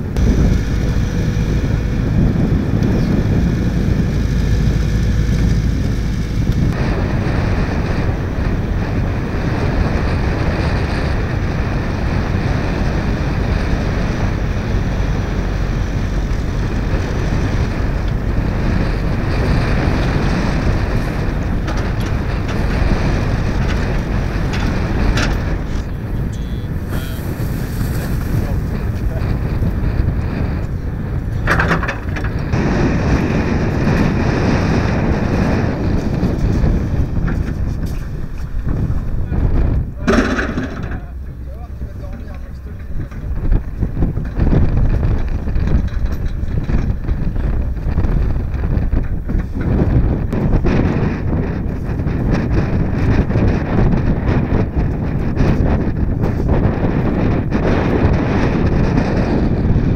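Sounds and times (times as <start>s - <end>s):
excavator diesel engine running: 0.0s - 59.9s
excavator digging sand: 0.0s - 59.9s
wind buffeting microphone: 0.0s - 59.9s.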